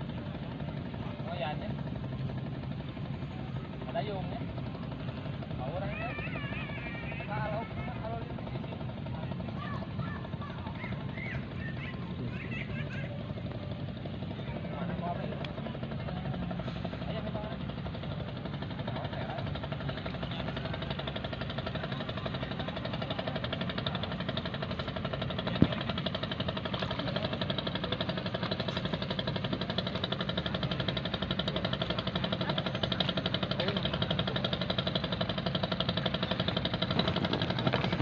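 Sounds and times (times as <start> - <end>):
small engine running: 0.0 - 38.0.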